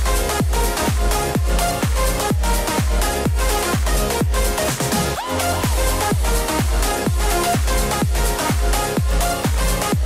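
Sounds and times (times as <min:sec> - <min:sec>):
steady kick drum: 0:00.0 - 0:05.0, 0:05.6 - 0:10.0
electronic dance music: 0:00.0 - 0:10.0.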